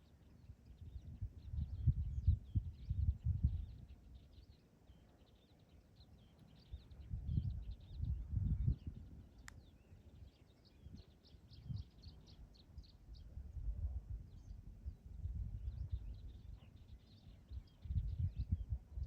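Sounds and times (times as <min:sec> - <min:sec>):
small birds chirping: 0:00.0 - 0:19.0
wind gusting on microphone: 0:00.6 - 0:04.4, 0:06.6 - 0:19.0.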